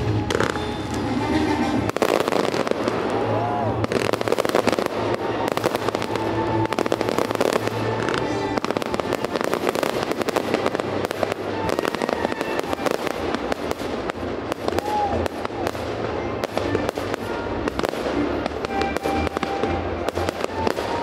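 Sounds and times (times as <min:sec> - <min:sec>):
firework bangs and crackling: 0:00.0 - 0:21.0
show music: 0:00.0 - 0:21.0.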